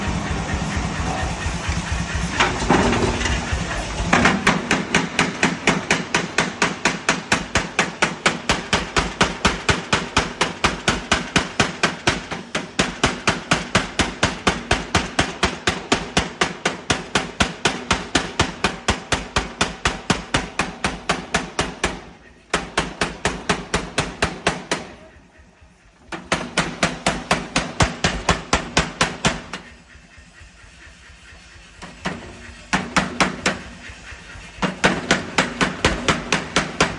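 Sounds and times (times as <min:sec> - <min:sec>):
forging hammer blows: 0:00.0 - 0:36.9.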